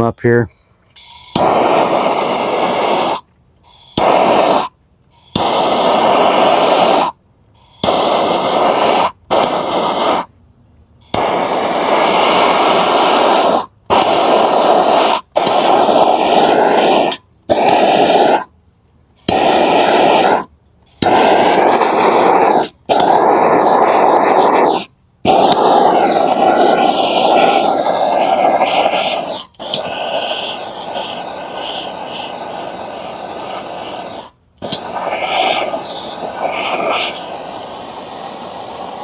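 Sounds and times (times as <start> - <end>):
gas torch flame roaring: 1.0 - 10.3, 11.0 - 18.5, 19.2 - 39.0.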